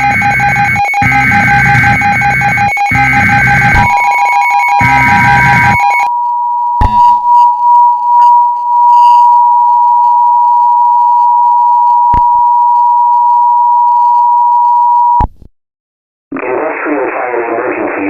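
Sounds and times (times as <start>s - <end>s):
piercing attention tone: 0.0s - 14.8s
screeching data tones: 0.0s - 15.2s.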